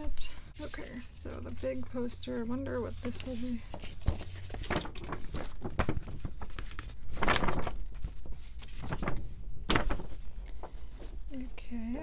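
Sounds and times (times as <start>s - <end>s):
paper rustling and crackling: 0.0s - 11.5s.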